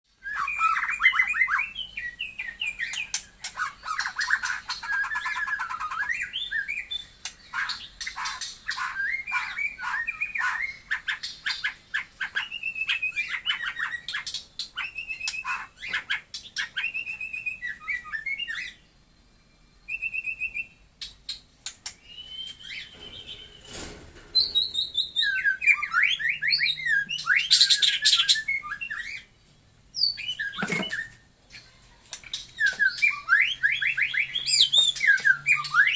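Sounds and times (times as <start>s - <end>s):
songbird singing whistles and trills: 0.1s - 35.9s.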